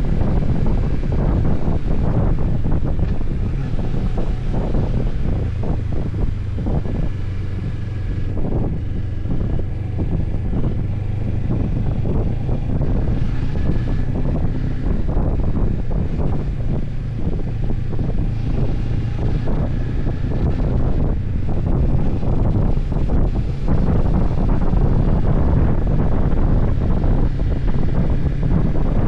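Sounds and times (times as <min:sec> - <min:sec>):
motorcycle engine droning: 0:00.0 - 0:29.0
wind buffeting microphone: 0:00.0 - 0:29.0.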